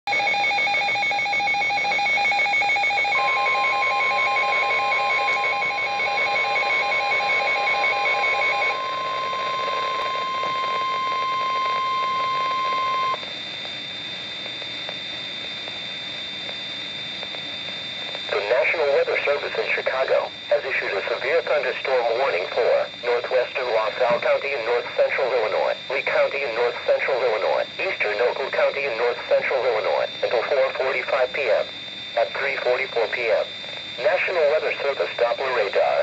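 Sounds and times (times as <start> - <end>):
rapid pulsing beep: 0.1 - 15.2, 17.8 - 36.0
steady alarm tone: 0.1 - 36.0.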